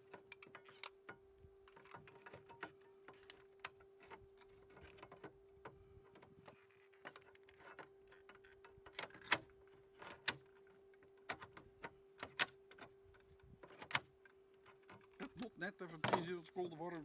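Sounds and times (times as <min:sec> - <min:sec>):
light clicks and knocks: 0:00.0 - 0:16.4
faint steady hum: 0:00.0 - 0:17.0.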